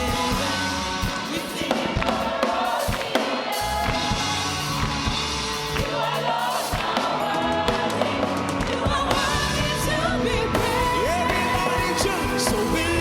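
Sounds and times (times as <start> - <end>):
drums beat: 0.0 - 13.0
gospel band playing: 0.0 - 13.0
vocalists singing: 0.0 - 13.0.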